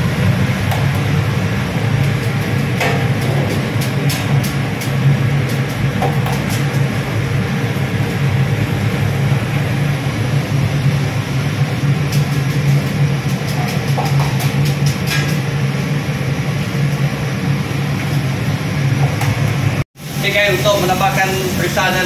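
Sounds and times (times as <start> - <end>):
low machinery drone: 0.0 - 22.0.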